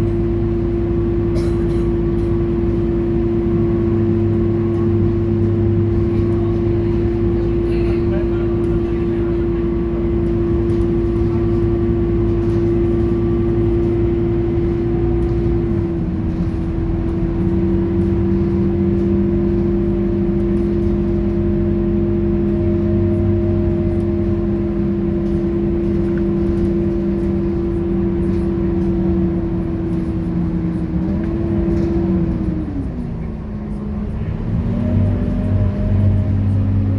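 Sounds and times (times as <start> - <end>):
bus mechanical whine: 0.0 - 36.9.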